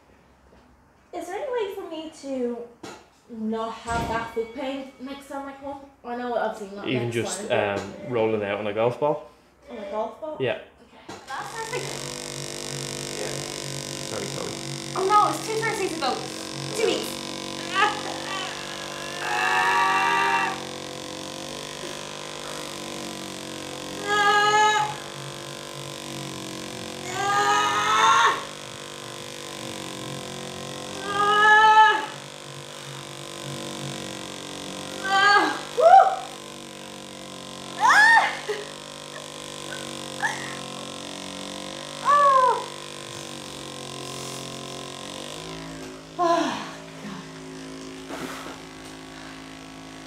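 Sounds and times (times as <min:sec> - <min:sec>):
massage gun motor humming: 0:06.8 - 0:09.2, 0:11.1 - 0:50.0.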